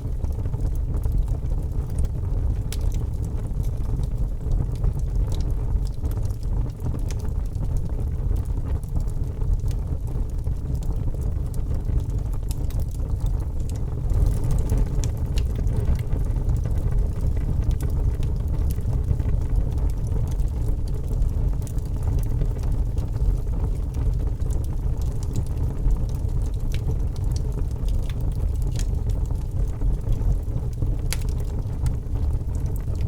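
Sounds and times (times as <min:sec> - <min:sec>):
burning wood crackling and popping: 0:00.0 - 0:33.0
low rumble of flames: 0:00.0 - 0:33.0.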